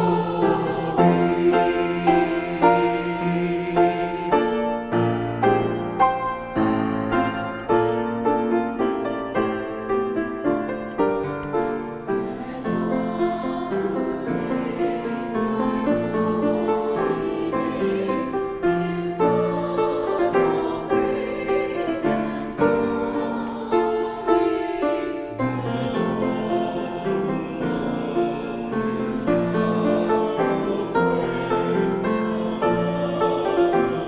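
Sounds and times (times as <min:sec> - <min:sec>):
choir singing: 0:00.0 - 0:34.0
piano: 0:00.0 - 0:34.0.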